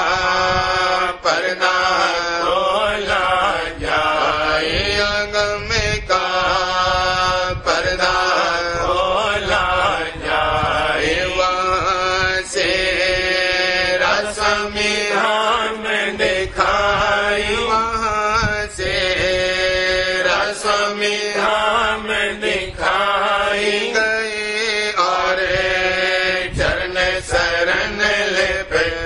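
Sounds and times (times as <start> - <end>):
person chanting: 0.0 - 29.0.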